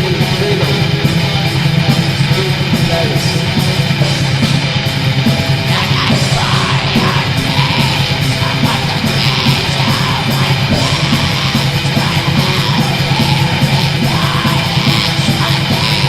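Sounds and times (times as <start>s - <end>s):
black metal band playing: 0.0s - 16.0s
harsh yelled vocals: 0.0s - 16.0s.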